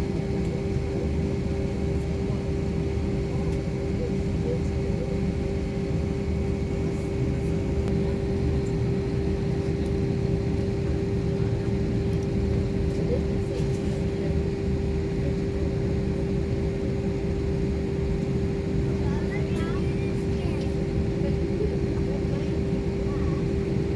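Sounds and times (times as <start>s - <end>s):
engine and airflow rumble: 0.0s - 23.9s.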